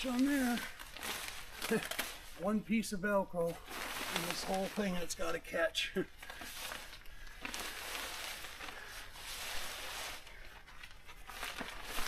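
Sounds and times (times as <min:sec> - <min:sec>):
canopy fabric rustling: 0:00.0 - 0:02.4, 0:03.4 - 0:05.2, 0:06.3 - 0:12.0.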